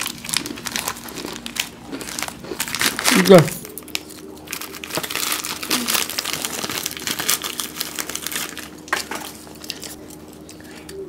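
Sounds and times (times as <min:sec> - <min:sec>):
plastic packet crinkling: 0:00.0 - 0:10.8.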